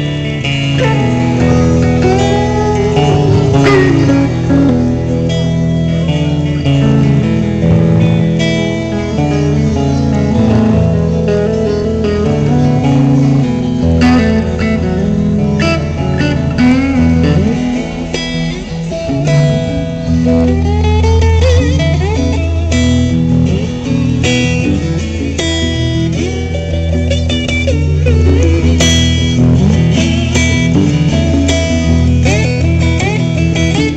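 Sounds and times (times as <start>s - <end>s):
electric guitar lead: 0.0s - 33.9s
low accompaniment: 0.0s - 33.9s
strummed guitar: 0.0s - 33.9s.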